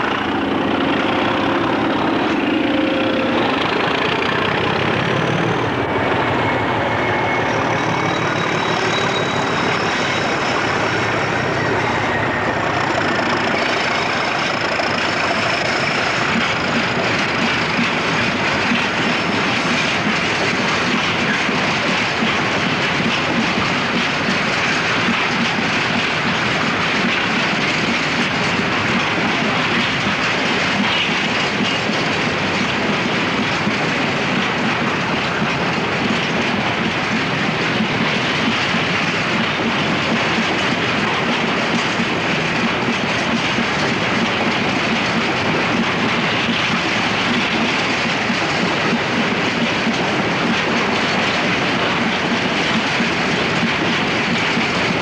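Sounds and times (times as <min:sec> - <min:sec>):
diesel locomotive passing: 0:00.0 - 0:55.0
train wheels rumbling on rails: 0:00.0 - 0:55.0.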